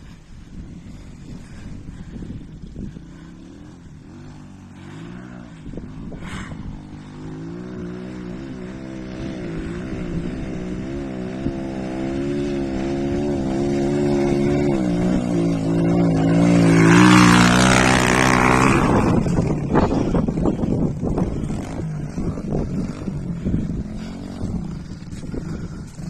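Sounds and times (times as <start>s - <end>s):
motorbike engine revving: 0.4s - 26.0s.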